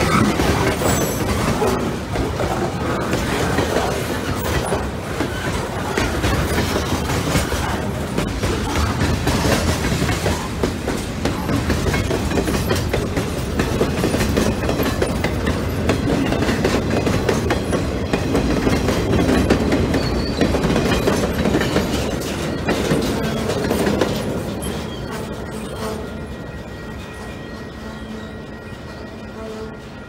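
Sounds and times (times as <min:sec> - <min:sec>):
wheels clacking over rail joints: 0:00.0 - 0:27.6
train wheels rumbling on rail: 0:00.0 - 0:30.0.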